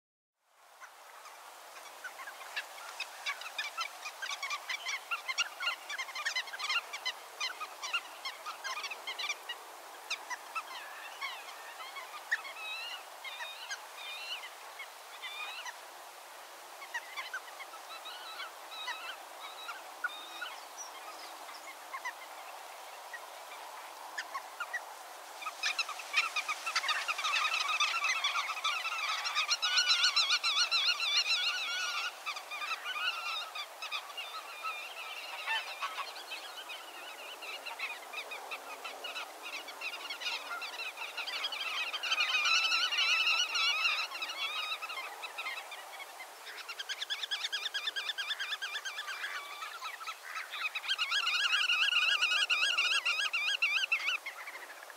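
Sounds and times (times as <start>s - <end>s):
water birds calling: 0.8s - 54.9s.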